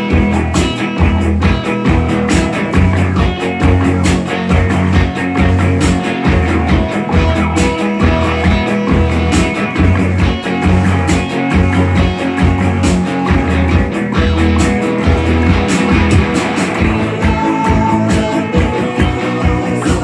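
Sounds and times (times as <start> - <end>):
electric guitar: 0.0 - 20.0
steady pulsing beat: 0.0 - 20.0.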